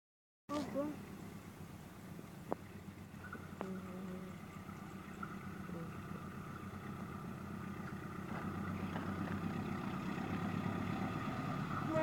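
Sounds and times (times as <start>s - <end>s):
diesel locomotive hum: 0.5s - 12.0s
faint steady whine: 0.5s - 12.0s.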